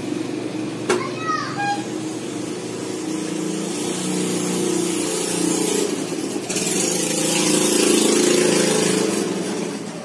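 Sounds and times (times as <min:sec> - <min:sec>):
steady engine hum: 0:00.0 - 0:10.0.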